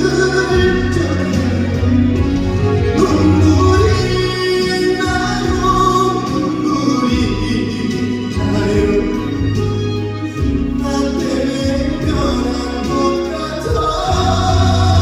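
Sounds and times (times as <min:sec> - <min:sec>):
backing track with bass: 0:00.0 - 0:15.0
person singing ballad: 0:00.0 - 0:15.0.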